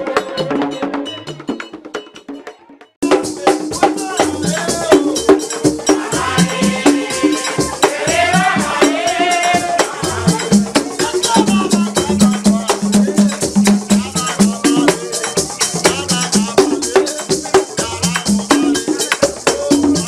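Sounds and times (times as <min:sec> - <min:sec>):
fast percussion beat: 0:00.0 - 0:20.0.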